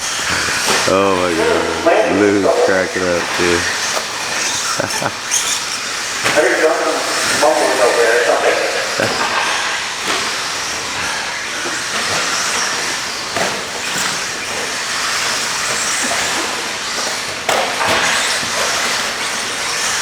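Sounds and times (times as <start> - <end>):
rc trucks whirring: 0.0 - 20.0.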